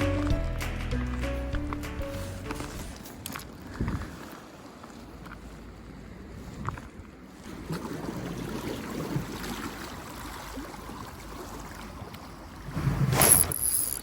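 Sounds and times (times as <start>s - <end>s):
sea water lapping: 2.1s - 13.4s.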